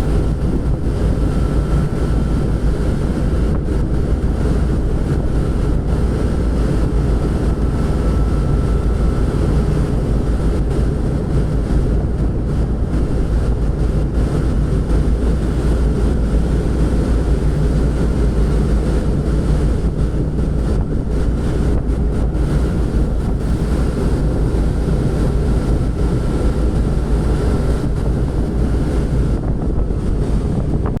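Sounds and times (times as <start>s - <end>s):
steady low drone: 0.0s - 31.0s
wind buffeting microphone: 0.0s - 31.0s.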